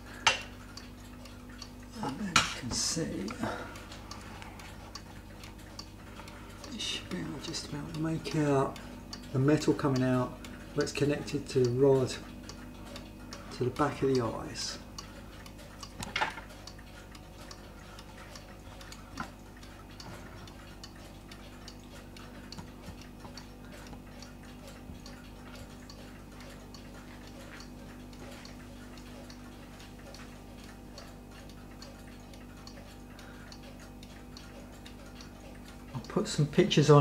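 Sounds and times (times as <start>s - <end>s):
clock ticking: 0.0s - 37.0s
faint steady hum: 0.0s - 37.0s.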